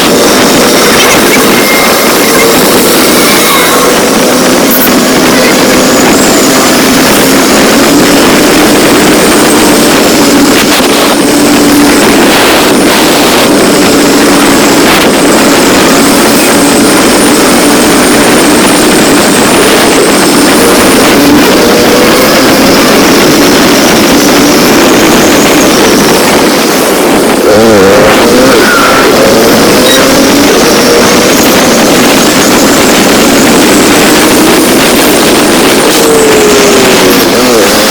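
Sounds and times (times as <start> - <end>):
motorcycle engine drone: 0.0 - 37.9
wind rush on microphone: 0.0 - 37.9.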